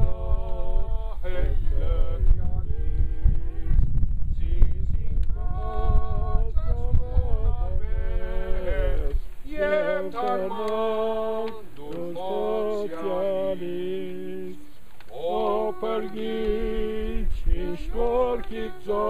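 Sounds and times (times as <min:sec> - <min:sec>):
group singing a hymn unaccompanied: 0:00.0 - 0:19.0.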